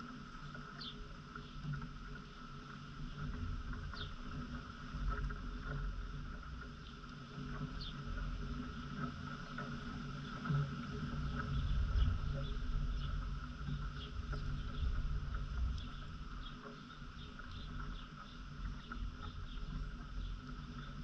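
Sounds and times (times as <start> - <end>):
low uneven rumble: 0.0 - 21.0
steady high hum: 0.0 - 21.0.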